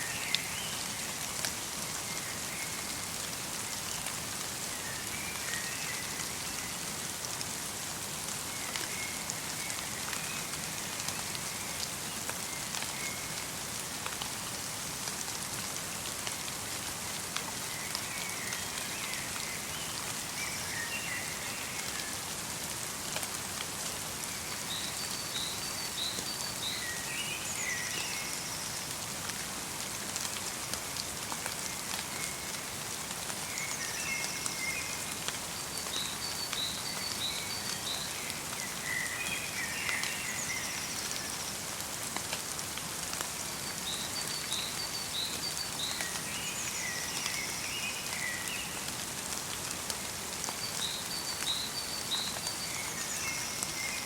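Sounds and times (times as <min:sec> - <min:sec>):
light rain patter: 0:00.0 - 0:54.0.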